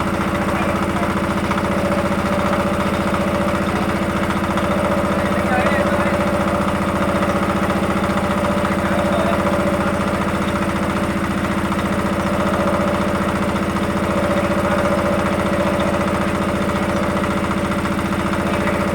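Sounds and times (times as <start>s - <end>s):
drilling rig engine running: 0.0s - 18.9s.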